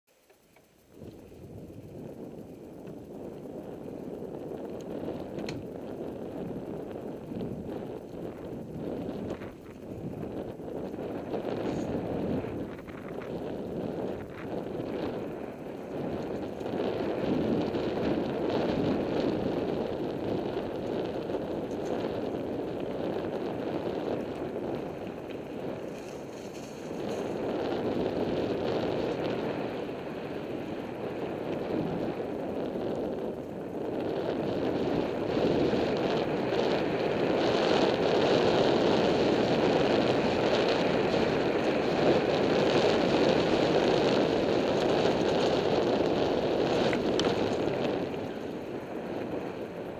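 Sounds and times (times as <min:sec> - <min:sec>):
wind buffeting microphone: 0:00.4 - 0:49.9.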